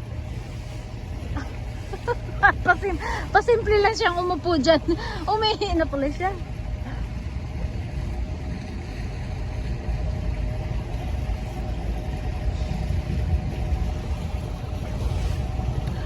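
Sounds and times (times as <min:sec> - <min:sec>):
speedboat engine rumbling: 0:00.0 - 0:16.0.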